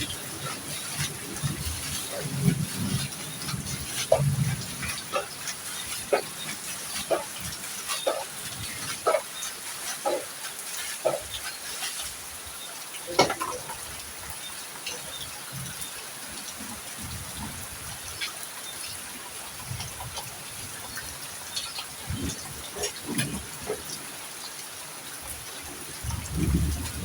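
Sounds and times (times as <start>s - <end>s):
drips and taps: 0.0s - 24.7s
heavy rain falling: 0.0s - 27.0s.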